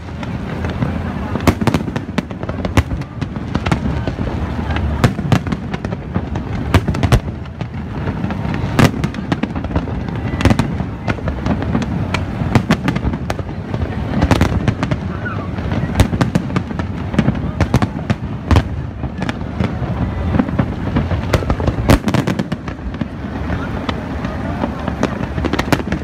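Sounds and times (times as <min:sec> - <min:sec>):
continuous low rumble: 0:00.0 - 0:26.0
fireworks bangs and crackles: 0:00.0 - 0:26.0.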